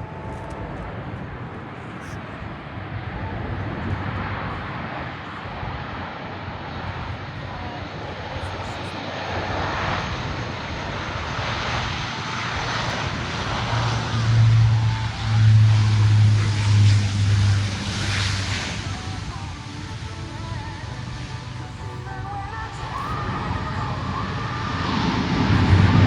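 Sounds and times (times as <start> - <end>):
turboprop aircraft engines roaring: 0.0 - 26.0.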